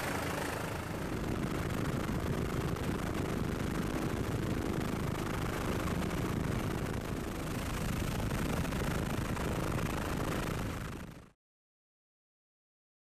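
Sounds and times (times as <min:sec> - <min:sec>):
helicopter engine and rotor rumble: 0:00.0 - 0:11.4.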